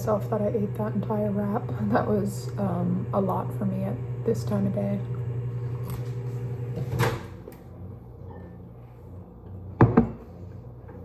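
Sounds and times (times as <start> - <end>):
low appliance hum: 0.0 - 11.0.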